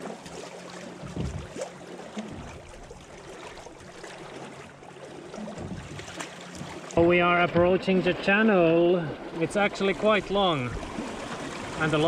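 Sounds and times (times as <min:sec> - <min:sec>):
water splashing along hulls: 0:00.0 - 0:12.0.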